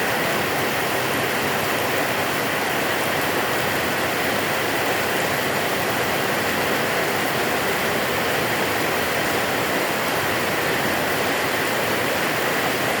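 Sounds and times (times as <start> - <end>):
heavy rain hiss: 0.0 - 13.0.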